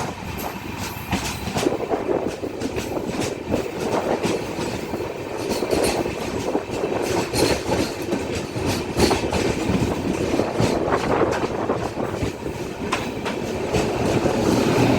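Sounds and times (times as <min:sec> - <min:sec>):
train wheels rumbling on rails: 0:00.0 - 0:14.9
wheels clicking over rail joints: 0:00.0 - 0:14.9.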